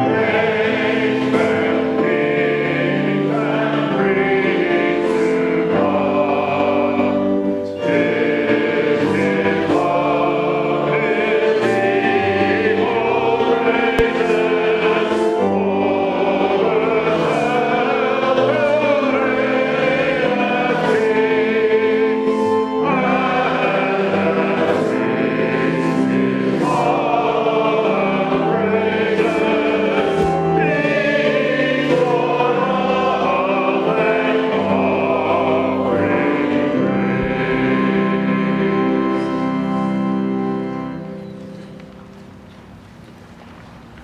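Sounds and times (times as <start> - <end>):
church choir singing: 0.0 - 42.8.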